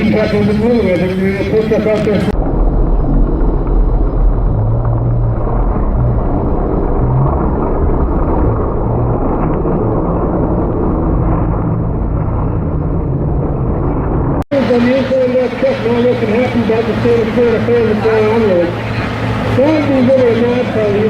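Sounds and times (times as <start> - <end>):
race truck engines rumbling: 0.0 - 21.0.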